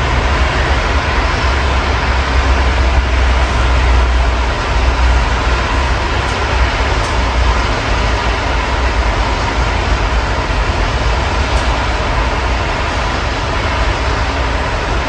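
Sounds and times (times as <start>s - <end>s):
low rumble of city traffic: 0.0s - 15.0s
steady rain: 0.0s - 15.0s.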